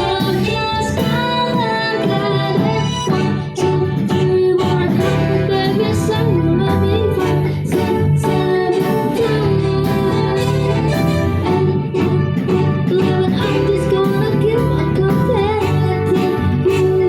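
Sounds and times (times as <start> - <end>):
guitar: 0.0 - 17.0
live band playing pop song: 0.0 - 17.0.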